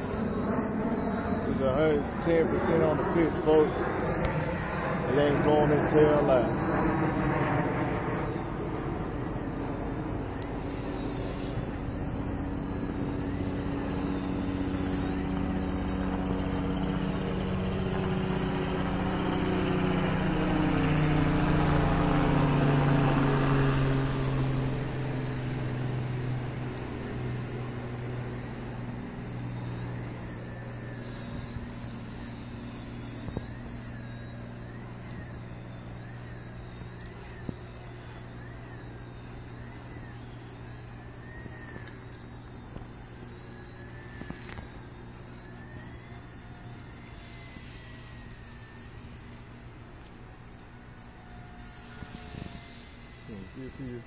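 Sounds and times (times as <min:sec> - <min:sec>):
helicopter motor and rotor whine: 0:00.0 - 0:54.0
higher wavering whine: 0:00.0 - 0:54.0.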